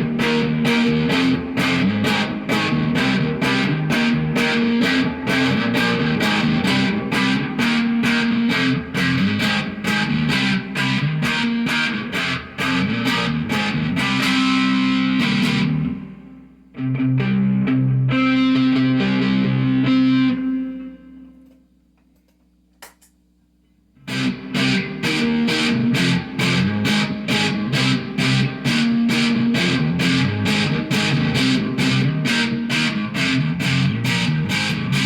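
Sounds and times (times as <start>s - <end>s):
distorted electric guitar riff: 0.0s - 21.6s, 24.0s - 35.0s.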